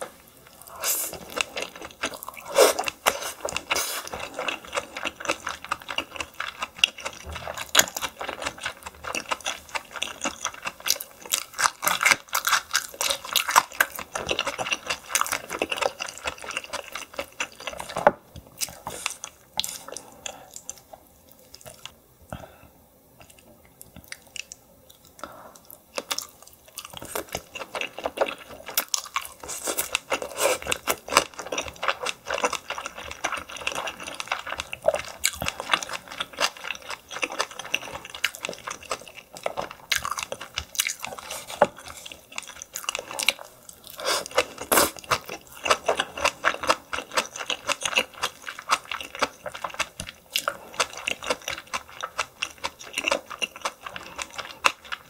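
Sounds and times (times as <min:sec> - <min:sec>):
chewing and wet mouth sounds: 0:00.4 - 0:22.0, 0:23.2 - 0:55.0.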